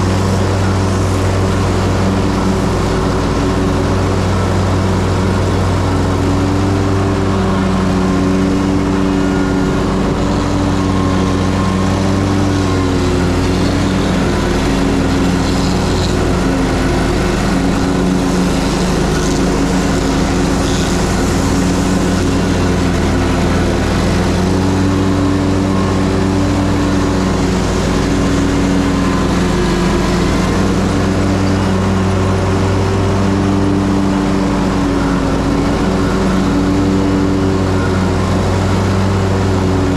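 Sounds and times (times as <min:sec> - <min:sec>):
mower blade and deck noise: 0:00.0 - 0:39.9
mower engine running: 0:00.0 - 0:39.9.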